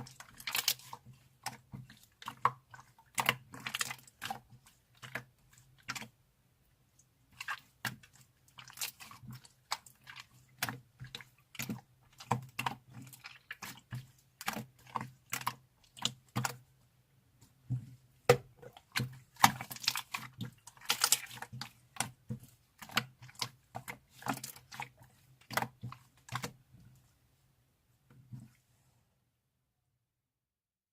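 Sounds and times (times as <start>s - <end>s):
slime squishing by hand: 0.0s - 6.2s, 6.8s - 27.1s.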